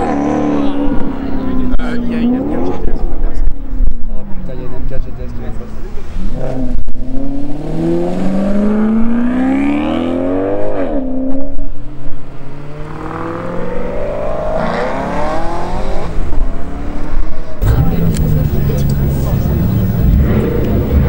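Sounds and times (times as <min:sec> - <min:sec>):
car engines accelerating: 0:00.0 - 0:21.0.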